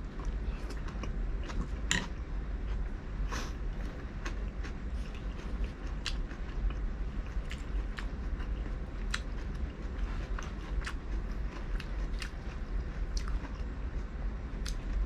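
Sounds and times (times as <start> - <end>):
steady low hum: 0.0 - 15.0
person chewing: 0.1 - 15.0.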